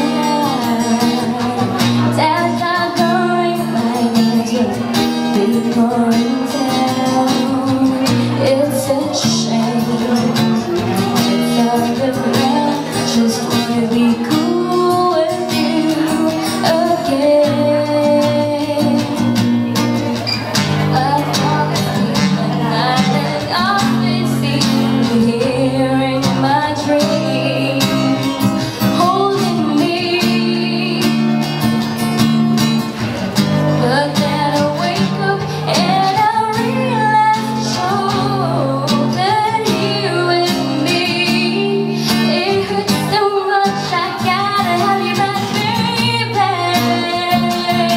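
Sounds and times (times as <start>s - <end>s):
woman singing pop ballad: 0.0s - 19.7s, 20.8s - 32.0s, 33.6s - 47.9s
acoustic guitar: 0.0s - 47.9s.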